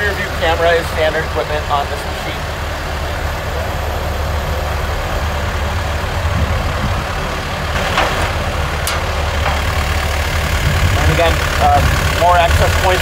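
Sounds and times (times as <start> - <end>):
diesel excavator engine idling: 0.0 - 13.0.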